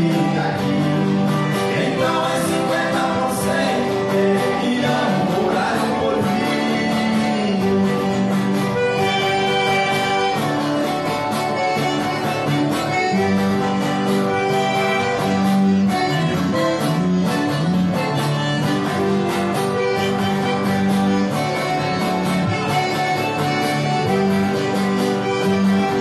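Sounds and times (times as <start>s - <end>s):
accordion sustained chords: 0.0s - 26.0s
acoustic guitar strumming: 0.0s - 26.0s.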